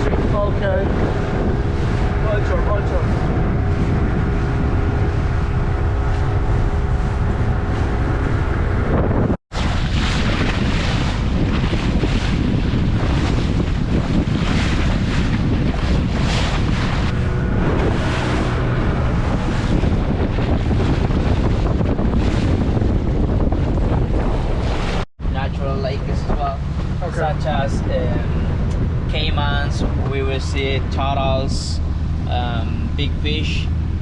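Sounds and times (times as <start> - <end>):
rushing water: 0.0 - 8.9, 9.5 - 34.0
motorboat engine drone: 0.0 - 34.0
wind buffeting microphone: 0.0 - 34.0.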